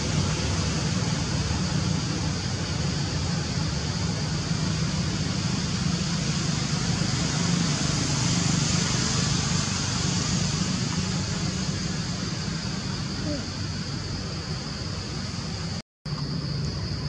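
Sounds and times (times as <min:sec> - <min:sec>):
high even hiss: 0:00.0 - 0:17.0.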